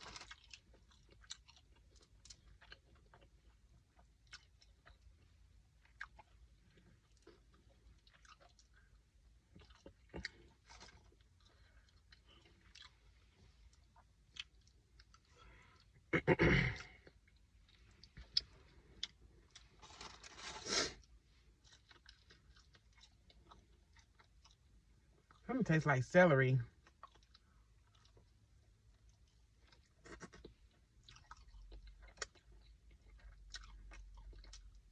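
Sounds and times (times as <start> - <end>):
chewing and crunching: 0.0 - 16.1, 16.7 - 25.5, 26.7 - 34.9.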